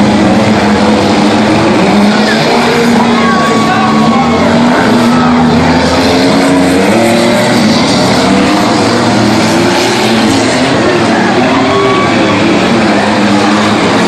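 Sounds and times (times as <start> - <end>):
small car engines revving: 0.0 - 14.0.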